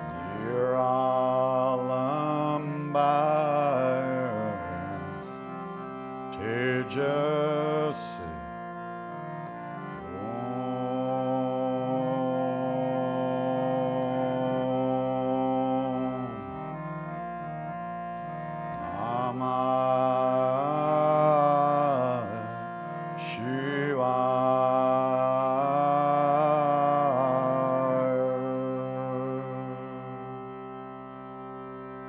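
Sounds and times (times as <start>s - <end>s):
person chanting long notes: 0.0s - 31.7s
harmonium sustained chord: 0.0s - 32.0s.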